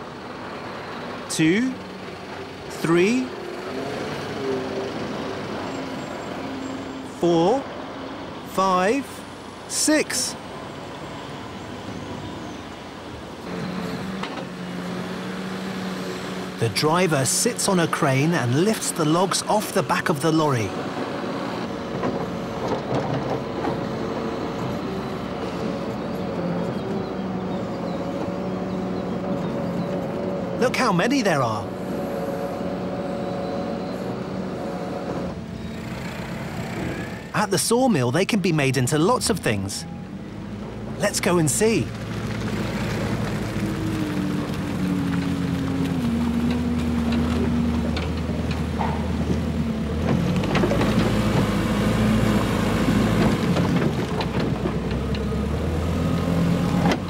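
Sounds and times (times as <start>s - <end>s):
heavy machine engine running: 10.4s - 37.9s, 38.7s - 57.0s.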